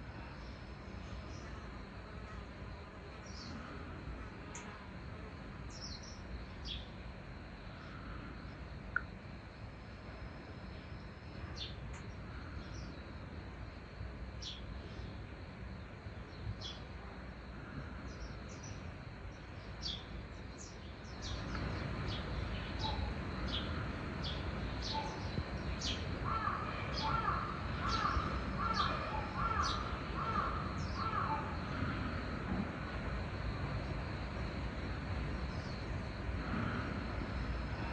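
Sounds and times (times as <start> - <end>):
background hum: 0.0 - 37.9.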